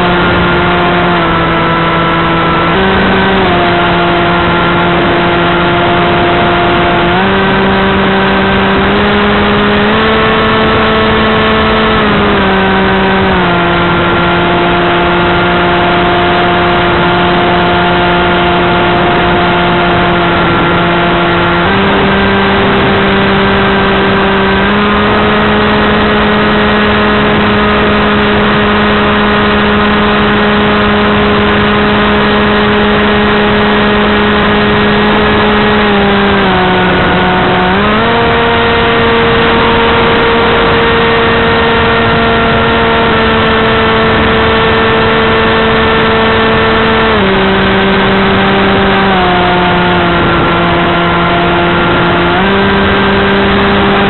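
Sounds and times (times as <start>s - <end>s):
model aircraft motor hum: 0.0s - 54.0s.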